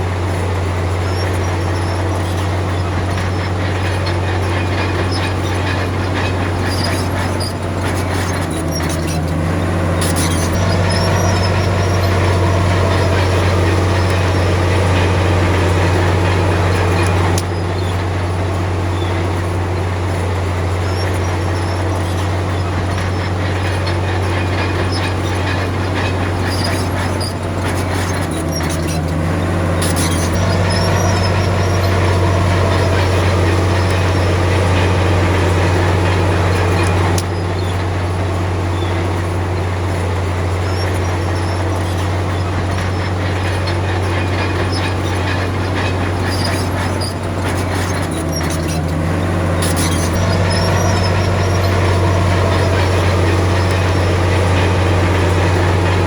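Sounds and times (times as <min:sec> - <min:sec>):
bulldozer diesel engine droning: 0:00.0 - 0:56.0
steel tracks clattering: 0:00.0 - 0:56.0.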